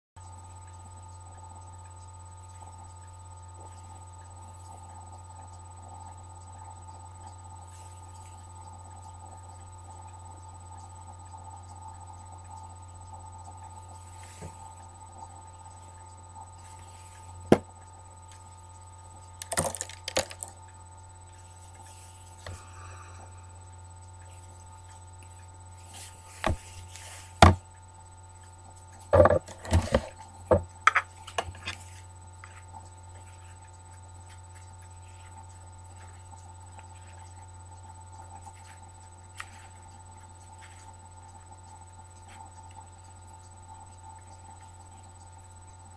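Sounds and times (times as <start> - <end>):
steady low hum: 0.2 - 45.9.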